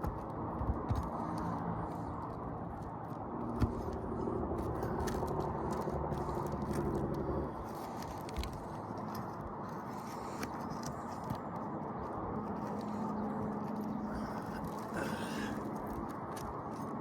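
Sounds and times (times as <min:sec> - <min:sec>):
tool scraping roof shingle: 0:00.0 - 0:17.0
low engine-like hum: 0:00.2 - 0:17.0.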